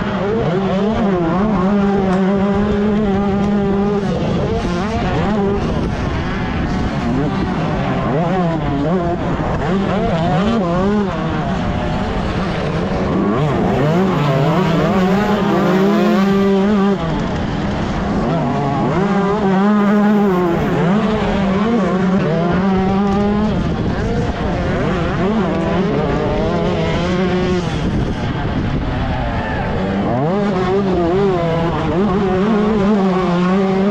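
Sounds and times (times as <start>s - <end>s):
motocross bike engine revving: 0.0s - 33.9s.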